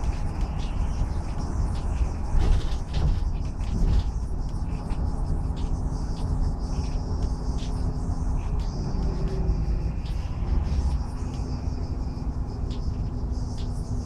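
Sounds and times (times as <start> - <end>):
bus engine and road noise: 0.0 - 14.0
faint engine tone: 0.0 - 14.0
rattles and squeaks: 0.0 - 14.0.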